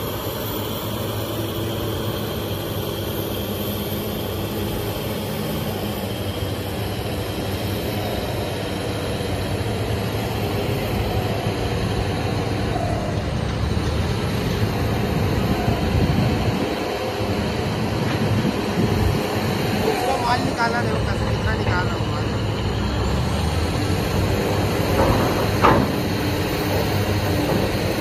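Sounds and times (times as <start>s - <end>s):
heavy diesel machines droning: 0.0s - 28.0s.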